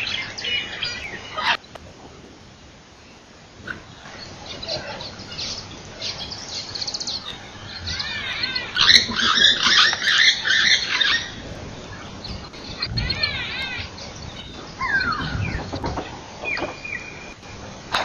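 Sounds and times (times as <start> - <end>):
birds chirping and calling: 0.0 - 1.7, 3.0 - 17.7.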